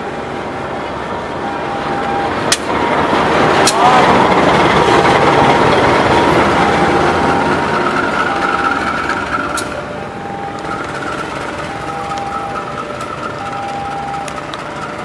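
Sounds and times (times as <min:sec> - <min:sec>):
train passing: 0:00.0 - 0:15.0
wheels on rails: 0:00.0 - 0:15.0.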